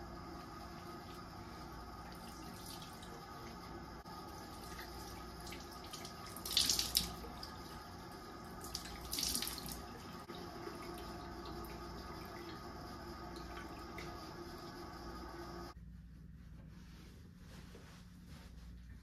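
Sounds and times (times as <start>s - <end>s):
tap water running: 0.0s - 15.8s.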